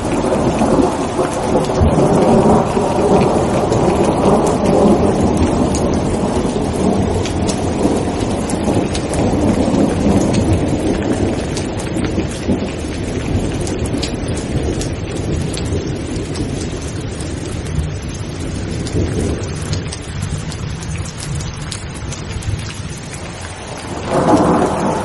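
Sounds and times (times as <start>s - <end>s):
low rumble of thunder: 0.0s - 25.0s
sharp raindrop ticks: 0.0s - 25.0s
steady rain: 0.0s - 25.0s.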